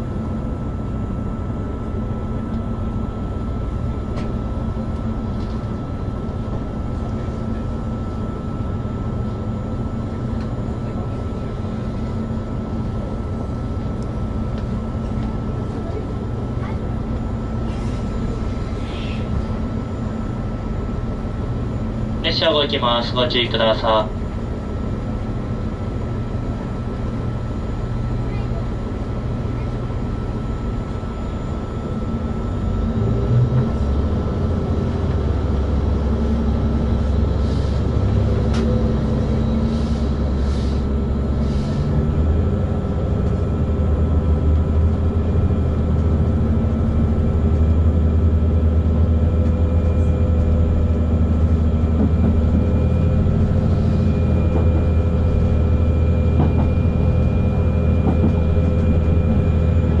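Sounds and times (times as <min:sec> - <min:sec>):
diesel train engine drone: 0:00.0 - 1:00.0.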